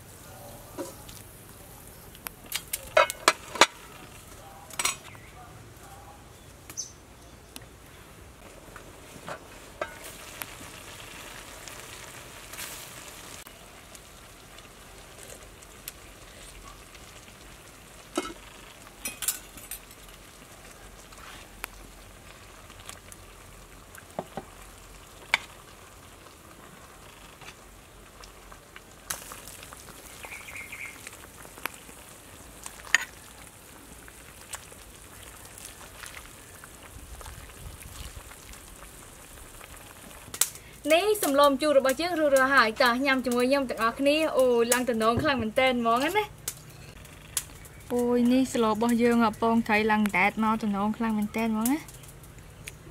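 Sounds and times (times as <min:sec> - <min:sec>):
soup boiling: 0:07.8 - 0:52.9.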